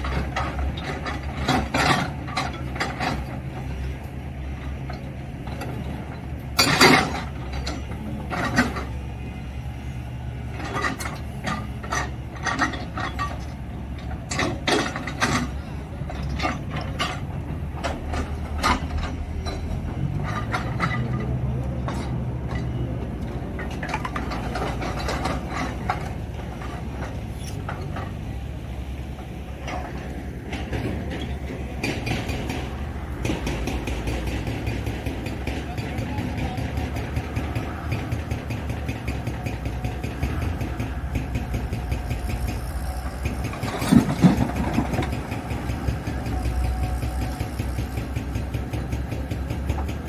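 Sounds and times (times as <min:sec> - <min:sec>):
digger diesel engine running: 0:00.0 - 0:50.0.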